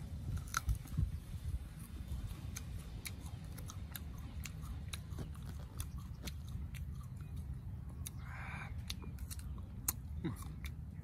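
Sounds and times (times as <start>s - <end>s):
crunchy fruit chewing: 0.0s - 11.0s.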